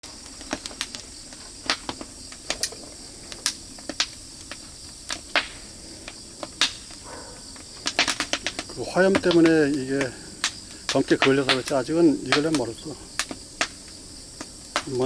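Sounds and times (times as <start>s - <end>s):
fire crackling and popping: 0.0s - 15.0s
high insect drone: 0.0s - 15.0s.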